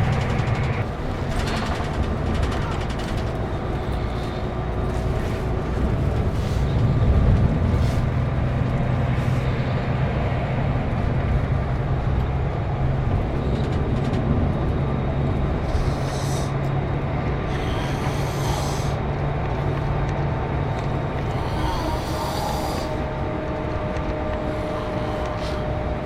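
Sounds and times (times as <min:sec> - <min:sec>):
bus diesel engine running: 0:00.0 - 0:26.0
road noise: 0:00.0 - 0:26.0.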